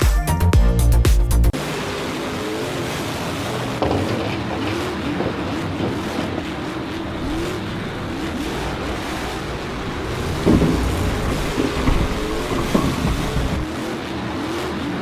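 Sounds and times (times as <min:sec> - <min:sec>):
racing car engine revving: 0:01.6 - 0:15.0
steady rushing noise: 0:01.6 - 0:15.0.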